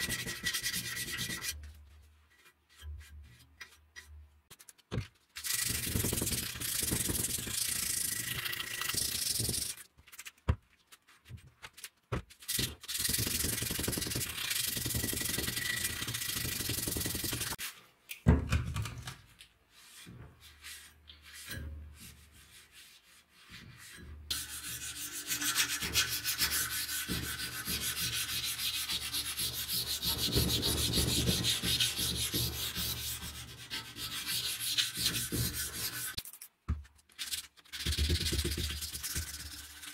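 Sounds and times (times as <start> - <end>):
sandpaper scratching metal blade: 0.0 - 3.8, 4.5 - 10.4, 11.8 - 17.8, 22.5 - 36.5, 37.1 - 39.9.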